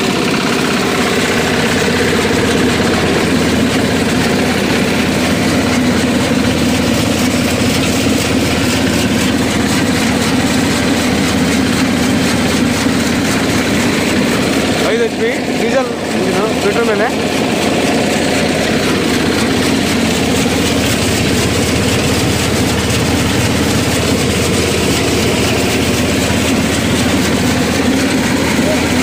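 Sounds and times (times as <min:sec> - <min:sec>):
chaff cutter chopping fodder: 0:00.0 - 0:29.0
small diesel engine running: 0:00.0 - 0:29.0.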